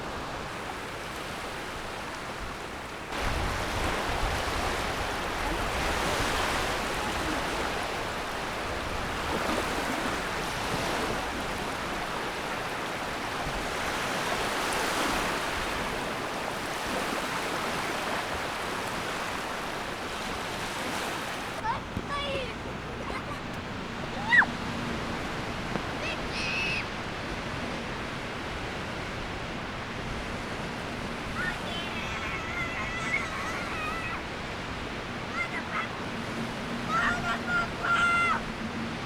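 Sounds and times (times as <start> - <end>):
water rushing and washing: 0.0 - 39.0
wind rumbling on microphone: 0.0 - 39.0.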